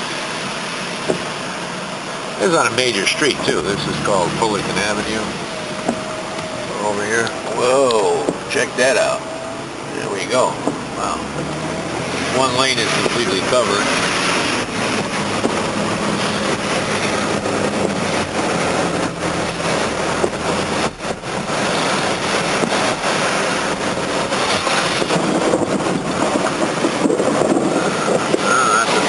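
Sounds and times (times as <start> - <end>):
car engines running: 0.0 - 29.0
water spray from car tyres: 0.0 - 29.0.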